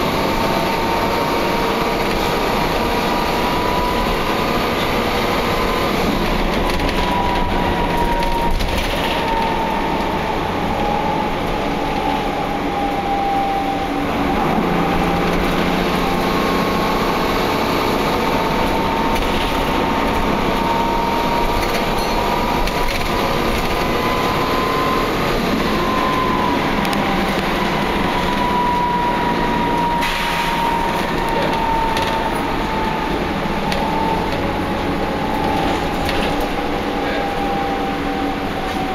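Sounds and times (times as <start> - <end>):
bus engine and road noise: 0.0 - 38.9
high whine sliding in pitch: 0.0 - 38.9.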